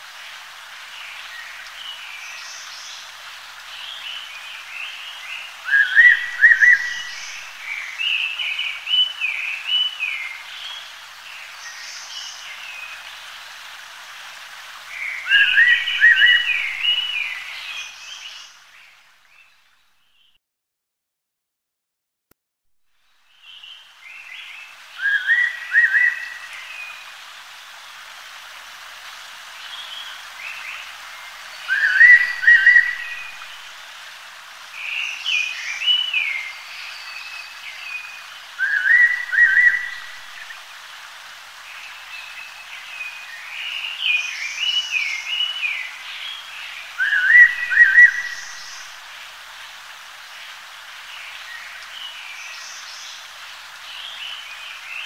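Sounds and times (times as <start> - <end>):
steady hiss: 0.0 - 20.0, 23.0 - 55.0.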